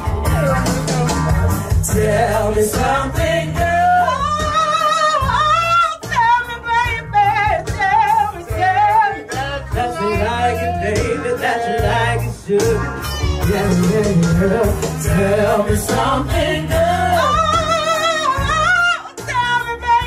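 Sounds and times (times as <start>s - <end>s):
instrumental backing music: 0.0s - 20.0s
woman singing: 0.1s - 20.0s.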